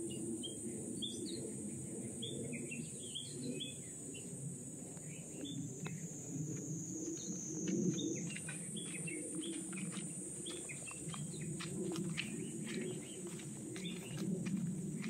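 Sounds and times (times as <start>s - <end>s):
small birds chirping: 0.1s - 4.4s, 5.0s - 15.0s.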